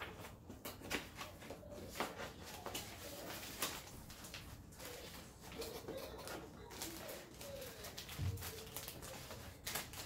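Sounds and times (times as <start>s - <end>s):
paper rustling: 0.0s - 10.0s
plastic bag rustling: 0.0s - 10.0s.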